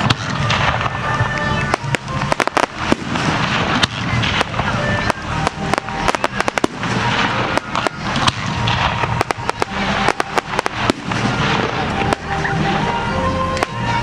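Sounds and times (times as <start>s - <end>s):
fireworks bursting with sharp bangs: 0.0s - 14.0s
fireworks crackling: 0.0s - 14.0s.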